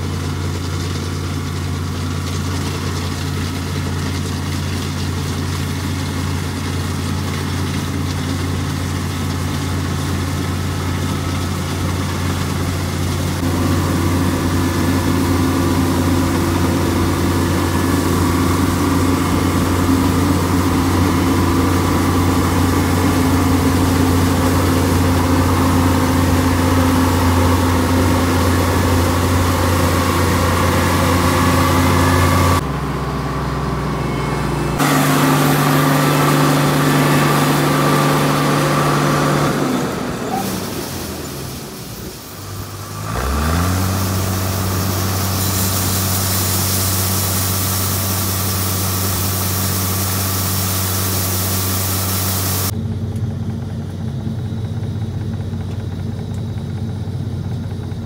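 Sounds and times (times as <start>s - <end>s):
diesel engine drone: 0.0s - 58.0s
threshing machinery hum: 0.0s - 58.0s.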